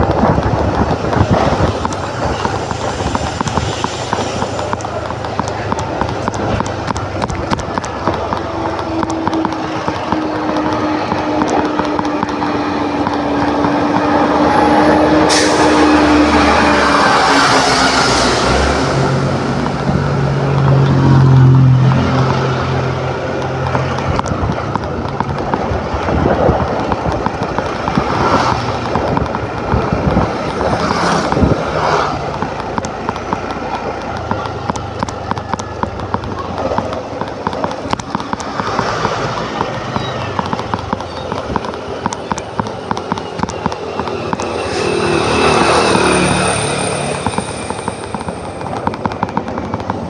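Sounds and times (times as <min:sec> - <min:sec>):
motor scooter engine running: 0:00.0 - 0:15.2, 0:19.0 - 0:50.0
road and wind noise: 0:00.0 - 0:50.0
vehicle passing: 0:00.0 - 0:50.0.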